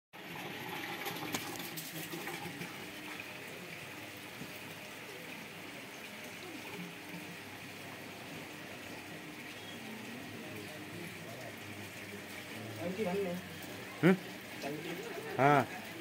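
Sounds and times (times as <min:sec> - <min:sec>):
background chatter: 0:01.9 - 0:16.0.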